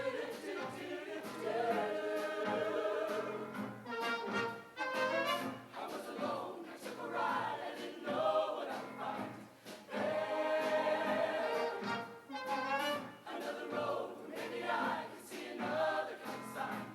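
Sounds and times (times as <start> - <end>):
choir singing with band: 0.0 - 16.9.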